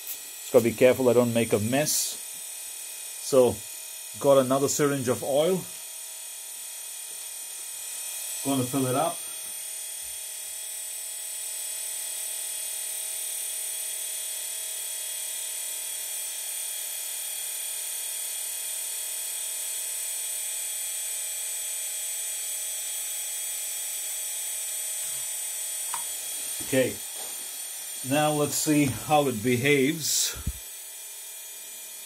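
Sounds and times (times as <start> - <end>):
electric motor and pump whine: 0.0 - 32.0.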